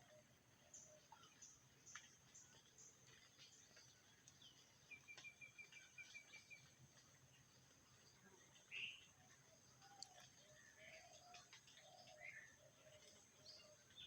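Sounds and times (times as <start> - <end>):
bird chirp: 0.0 - 6.8, 7.4 - 14.0.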